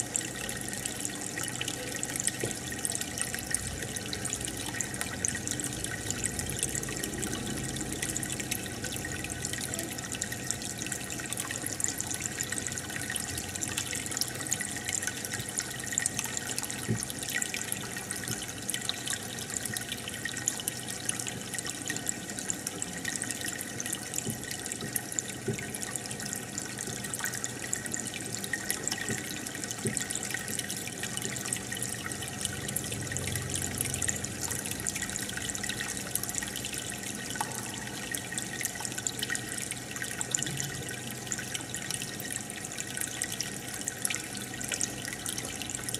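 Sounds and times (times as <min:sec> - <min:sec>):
aquarium water bubbling: 0:00.0 - 0:45.9.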